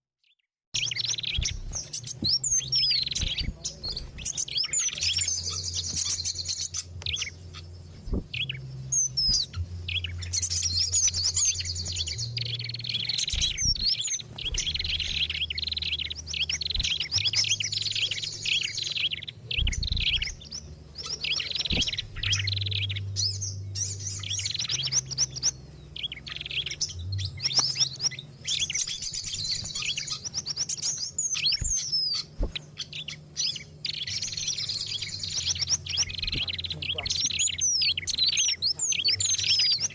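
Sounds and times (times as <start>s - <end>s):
small songbirds chirping and trilling: 0.2s - 39.9s
low steady hum: 0.8s - 39.9s.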